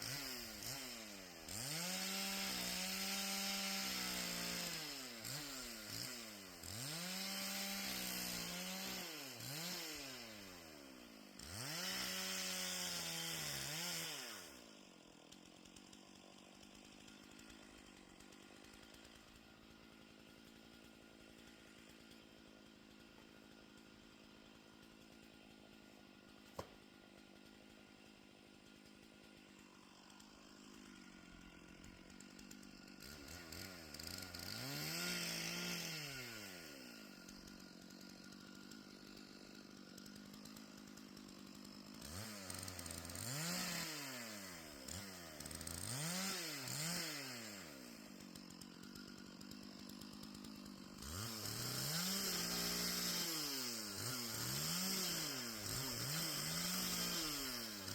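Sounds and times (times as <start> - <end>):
chainsaw revving and cutting: 0.0 - 57.9.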